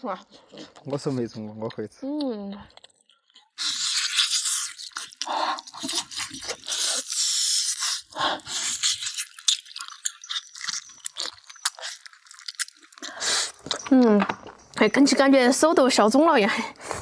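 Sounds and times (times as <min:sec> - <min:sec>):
person chewing and gnawing: 0:00.2 - 0:14.9.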